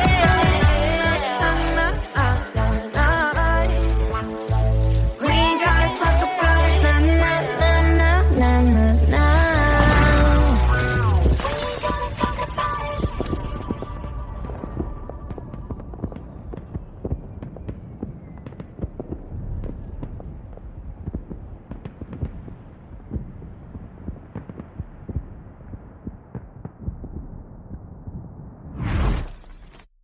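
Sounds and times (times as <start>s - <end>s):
crackling and popping noise: 2.3s - 30.0s.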